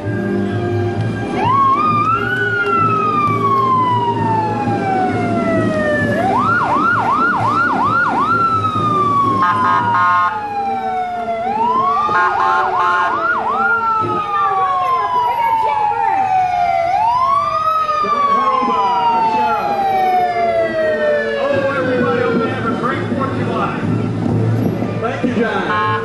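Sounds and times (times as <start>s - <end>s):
police siren wailing: 0.0s - 26.0s.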